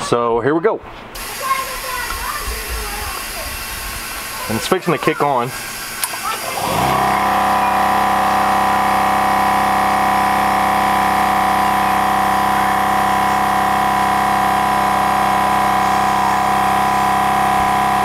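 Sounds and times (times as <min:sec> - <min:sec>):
air compressor running: 0:01.2 - 0:18.0.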